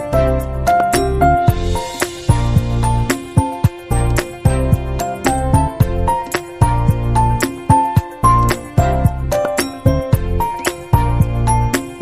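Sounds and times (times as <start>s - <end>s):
upbeat bell-like music with beat: 0.0s - 12.0s.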